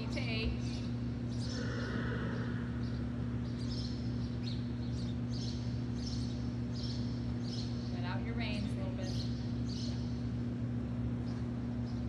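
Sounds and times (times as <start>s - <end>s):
steady low hum: 0.0s - 12.0s
small birds chirping: 0.1s - 12.0s.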